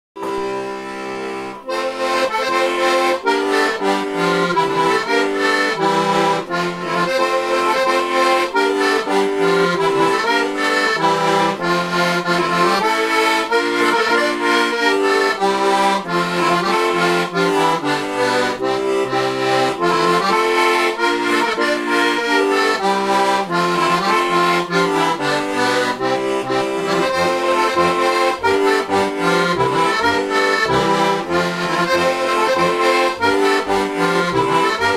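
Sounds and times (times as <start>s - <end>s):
button accordion playing folk tune: 0.2s - 34.9s.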